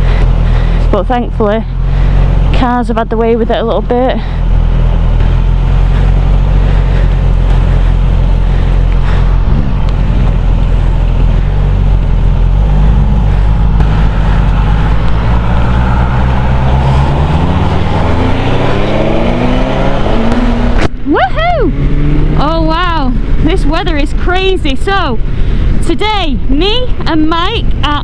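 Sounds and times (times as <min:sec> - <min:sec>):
motorcycle engine running: 0:00.0 - 0:27.2
tyres on slushy road: 0:00.0 - 0:28.0
wind rushing: 0:04.4 - 0:27.1.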